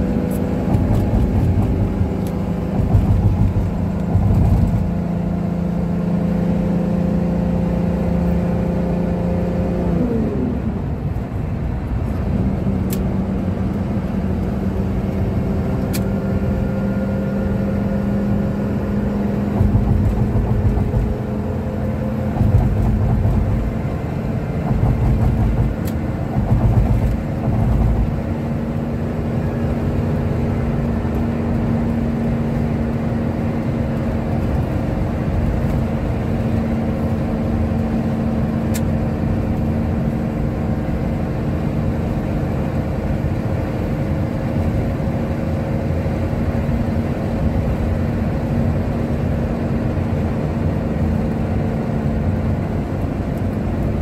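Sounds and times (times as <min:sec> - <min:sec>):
bus engine drone: 0:00.0 - 0:54.0
road rumble: 0:00.0 - 0:54.0.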